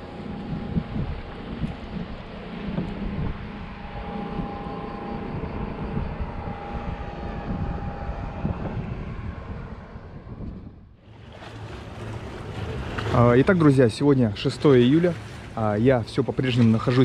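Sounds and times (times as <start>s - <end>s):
faint boat motor whine: 0.0s - 17.0s
wind buffeting microphone: 0.0s - 17.0s.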